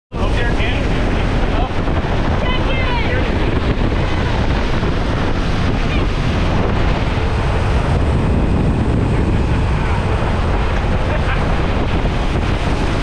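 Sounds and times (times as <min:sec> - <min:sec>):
aircraft engine noise: 0:00.1 - 0:13.0
wind buffeting microphone: 0:00.1 - 0:13.0
wind rushing: 0:00.1 - 0:13.0.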